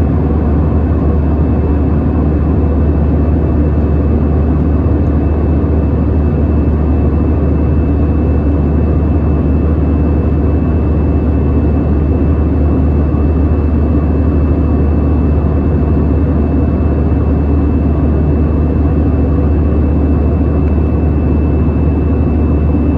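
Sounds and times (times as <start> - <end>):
jet engines roaring in cabin: 0.0 - 22.9.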